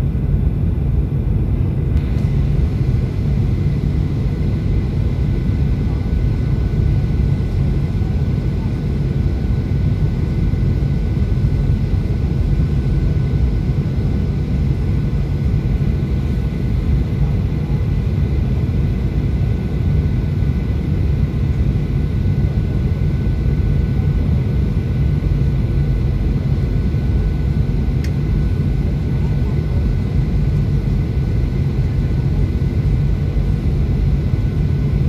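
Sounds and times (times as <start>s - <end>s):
airplane cabin rumble: 0.0s - 35.0s
faint steady whine: 0.0s - 35.0s.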